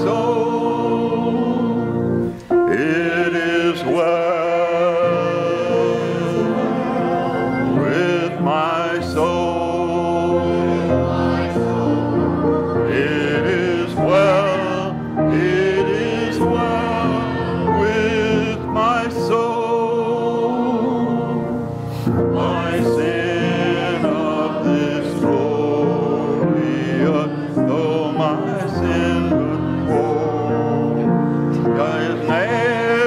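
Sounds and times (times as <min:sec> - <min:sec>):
congregation singing a hymn: 0:00.0 - 0:33.0
instrumental accompaniment: 0:00.0 - 0:33.0.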